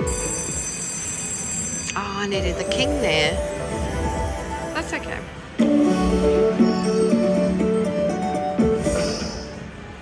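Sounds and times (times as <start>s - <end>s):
slot machine music: 0.0s - 9.9s.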